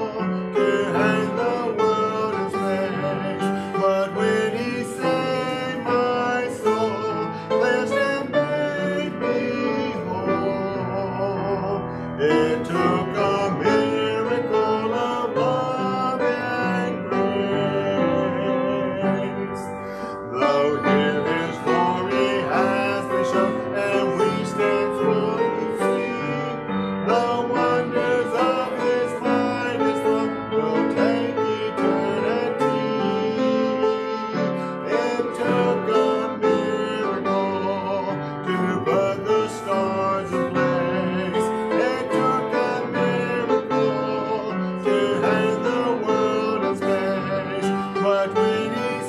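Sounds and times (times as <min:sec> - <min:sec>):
piano accompaniment: 0:00.0 - 0:49.0
voices singing a hymn: 0:00.0 - 0:49.0.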